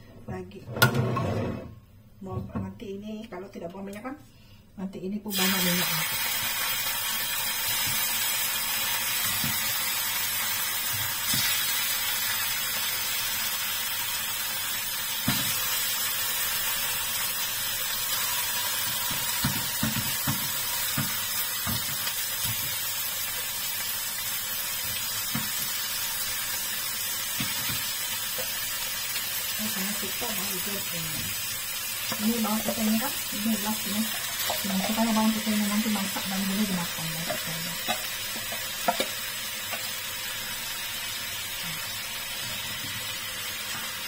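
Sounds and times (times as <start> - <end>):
fish sizzling in hot oil: 5.3 - 44.0.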